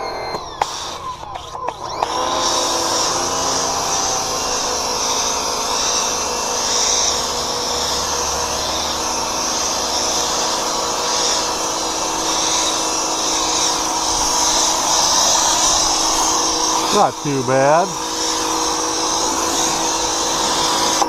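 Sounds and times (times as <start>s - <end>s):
pressure washer running: 0.0s - 21.0s.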